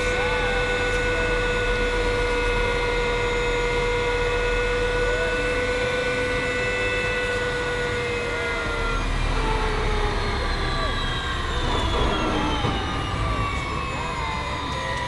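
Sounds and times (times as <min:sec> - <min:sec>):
helicopter rotor and air rushing: 0:00.0 - 0:15.0
high whine: 0:00.0 - 0:15.0.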